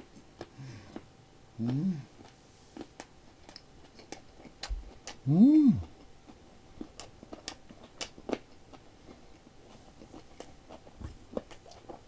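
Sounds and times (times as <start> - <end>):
crunchy chewing: 0.1 - 12.0.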